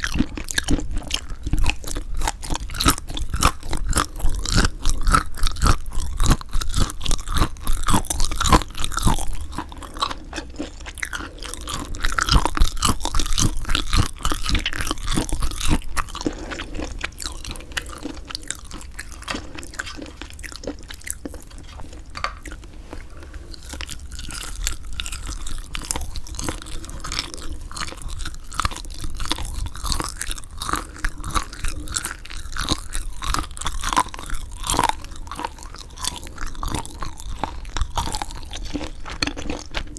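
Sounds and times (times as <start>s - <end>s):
close chewing with wet clicks: 0.0s - 39.9s.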